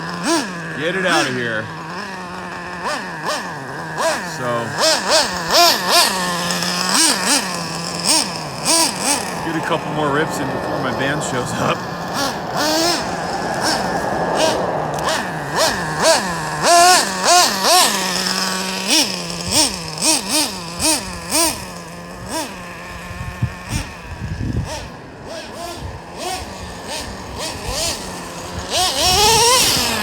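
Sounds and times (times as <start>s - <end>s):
model nitro engine revving: 0.0s - 30.0s.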